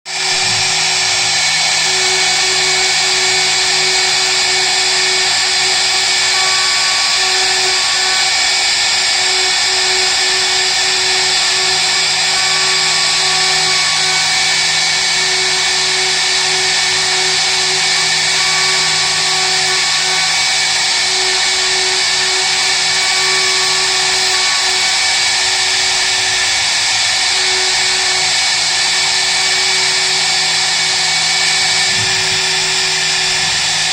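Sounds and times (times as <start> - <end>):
mill spindle whining while cutting: 0.1 - 33.9.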